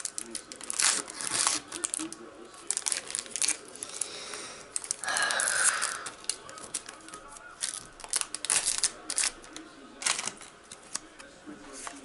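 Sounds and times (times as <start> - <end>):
foil wrapper ripping: 0.0 - 11.2
foil crinkling: 0.0 - 12.0.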